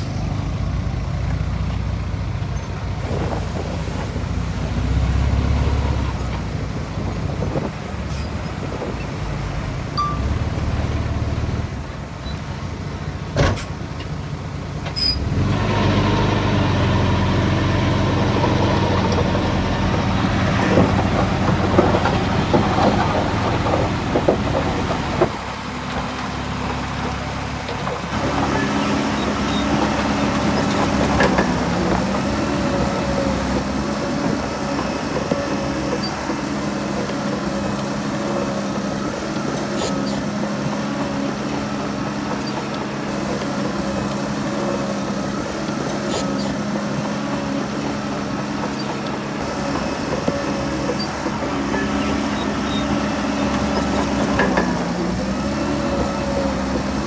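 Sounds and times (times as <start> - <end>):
earthmoving machinery engine: 0.0 - 57.0.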